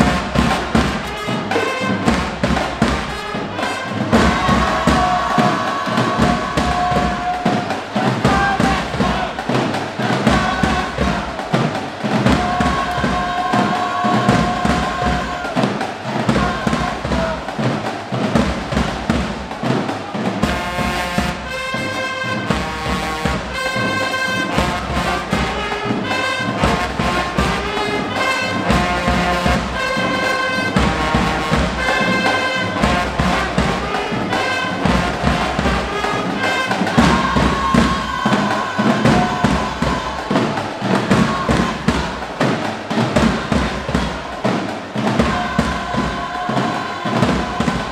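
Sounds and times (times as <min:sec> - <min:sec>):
horns playing held chords: 0:00.0 - 0:17.5, 0:20.4 - 0:47.9
marching band playing: 0:00.0 - 0:47.9
snare and bass drum beats: 0:00.0 - 0:47.9.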